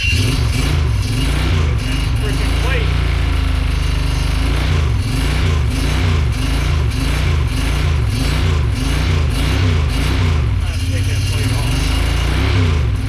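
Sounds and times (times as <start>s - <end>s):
engine running with wavering pitch: 0.0s - 13.0s.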